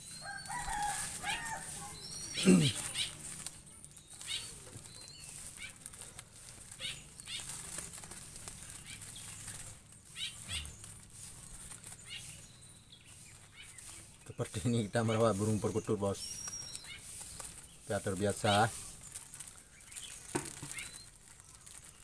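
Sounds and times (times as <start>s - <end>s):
dove flapping its wings: 0.0s - 12.5s, 16.2s - 22.0s.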